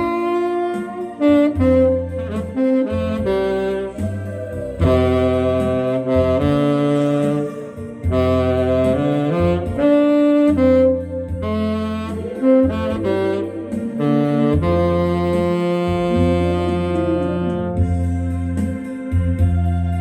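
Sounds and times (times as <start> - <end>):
bass line: 0.0 - 20.0
keyboard: 0.0 - 20.0
saxophone playing slow melody: 0.0 - 20.0.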